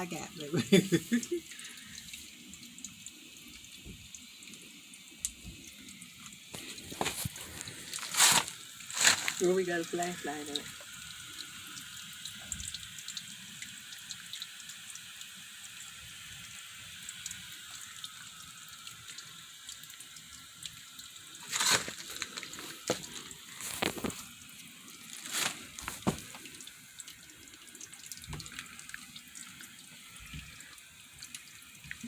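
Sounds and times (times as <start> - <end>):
water hissing and dripping: 0.0 - 32.0.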